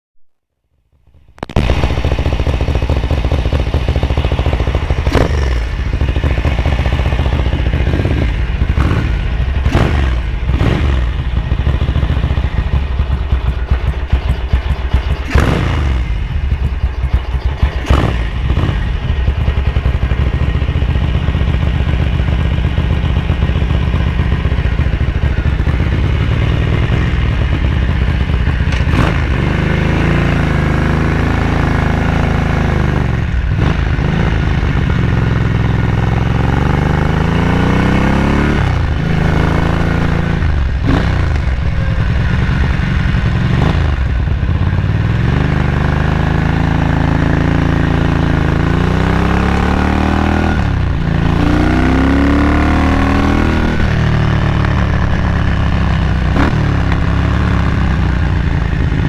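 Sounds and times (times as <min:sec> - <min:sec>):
motorcycle engine starting and running: 0:01.0 - 0:59.0.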